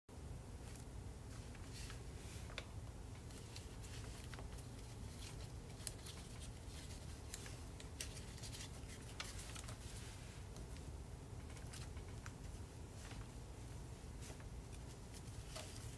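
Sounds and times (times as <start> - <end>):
low room hum: 0.1 - 15.9
paper crinkling and clicking: 0.7 - 13.4, 14.2 - 15.9.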